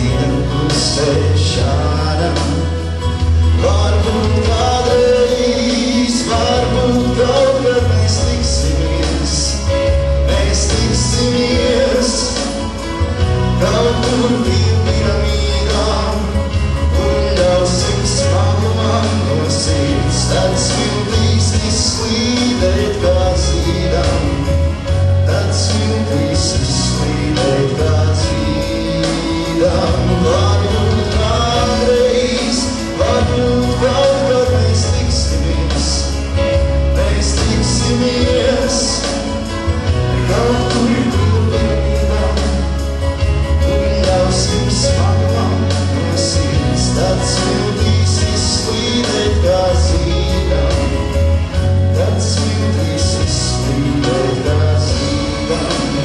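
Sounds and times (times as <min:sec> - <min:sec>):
man singing into a microphone: 0:00.0 - 0:56.0
musical accompaniment with bass line: 0:00.0 - 0:56.0.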